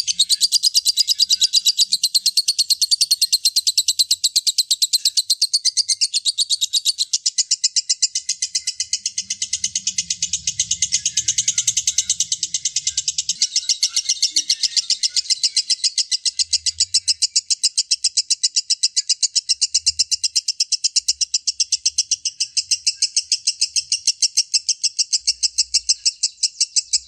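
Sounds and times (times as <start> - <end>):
lovebird rapid shrill chirps: 0.0 - 27.0.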